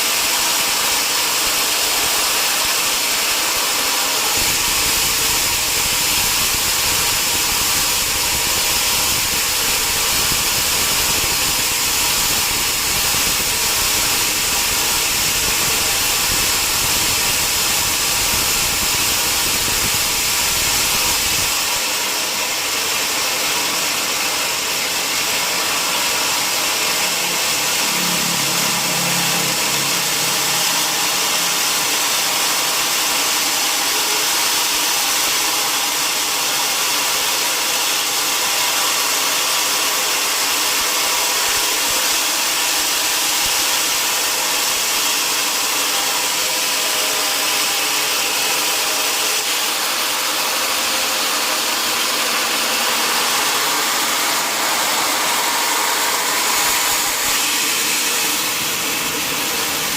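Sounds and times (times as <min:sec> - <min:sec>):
sawmill machinery hiss: 0:00.0 - 0:59.9.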